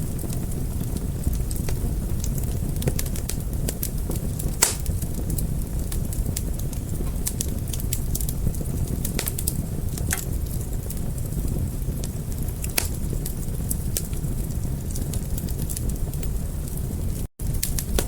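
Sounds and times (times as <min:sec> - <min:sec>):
low rumble of burning: 0:00.0 - 0:18.0
wood fire crackling: 0:00.0 - 0:18.0.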